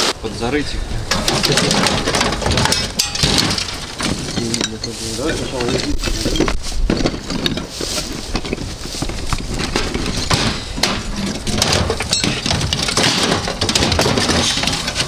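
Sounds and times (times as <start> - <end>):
rustling: 1.0 - 15.0
scrap metal clinking and knocking: 1.1 - 15.0.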